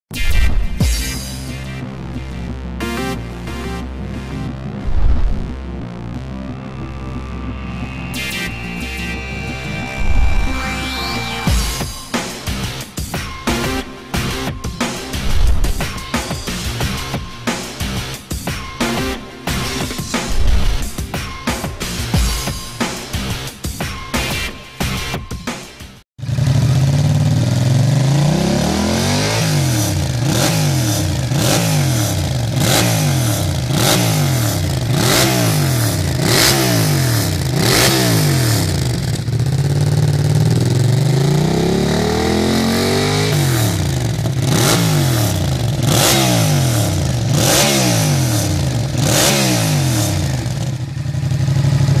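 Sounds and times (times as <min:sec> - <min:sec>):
motorcycle engine revving: 0:04.8 - 0:23.5, 0:26.2 - 0:52.0.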